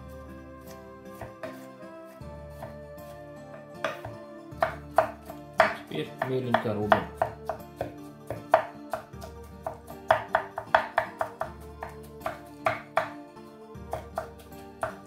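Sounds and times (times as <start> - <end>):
background music: 0.0 - 15.0
knife chopping on wooden board: 0.7 - 1.7, 2.5 - 13.2, 13.9 - 15.0.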